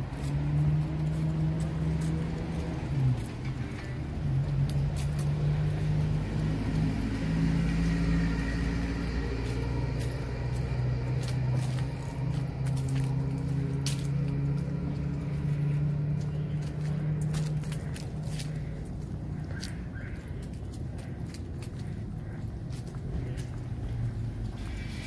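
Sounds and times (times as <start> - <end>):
road traffic hum: 0.0 - 25.0.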